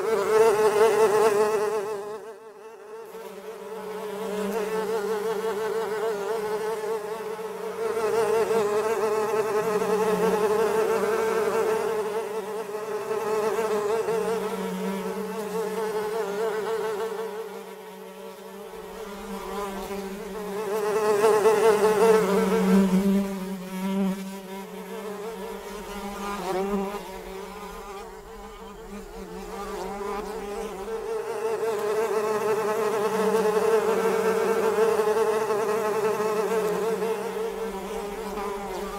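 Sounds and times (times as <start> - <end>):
flies buzzing: 0.0 - 38.9.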